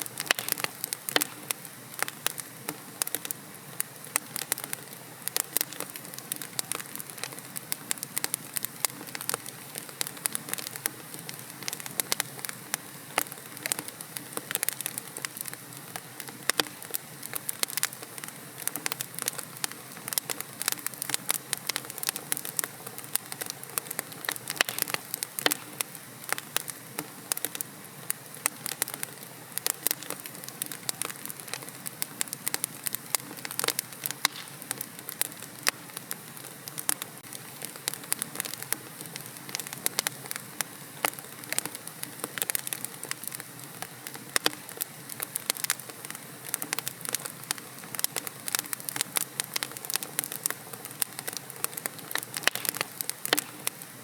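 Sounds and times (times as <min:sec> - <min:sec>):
fireplace logs crackling: 0:00.0 - 0:54.0
steady hiss: 0:00.0 - 0:54.0.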